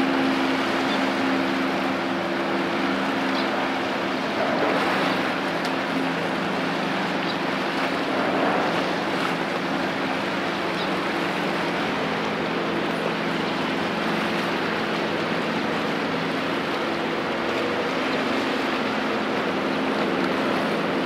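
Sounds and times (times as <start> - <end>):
low ship hum: 0.0 - 21.0
water rushing at bow wave: 0.0 - 21.0.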